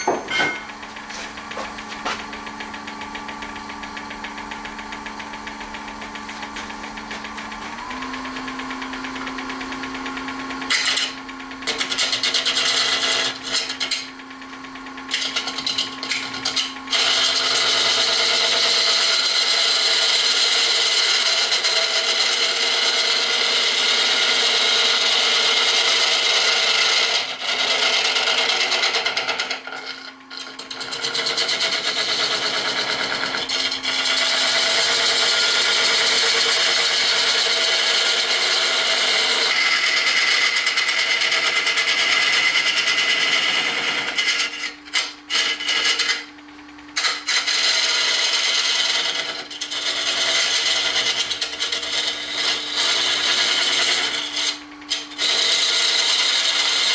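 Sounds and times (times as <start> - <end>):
lathe gouge cutting: 0.0 - 46.4, 47.0 - 56.9.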